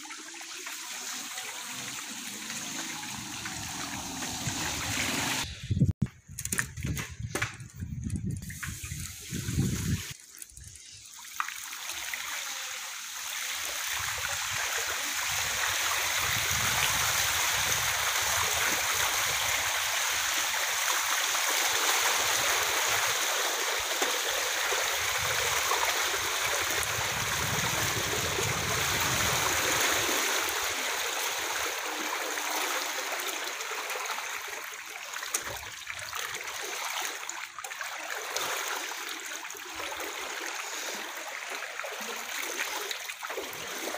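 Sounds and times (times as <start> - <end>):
bicycle wheel splashing through water: 0.5 - 5.5, 13.0 - 43.9.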